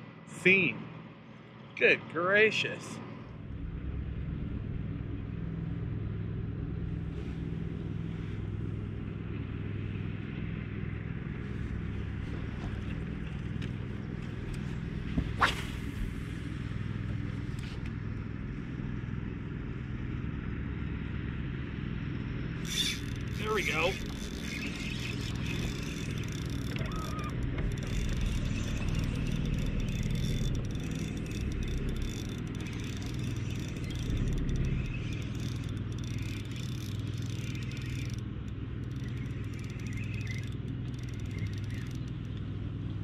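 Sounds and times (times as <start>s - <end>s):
electric trolling motor hum: 2.2s - 43.0s.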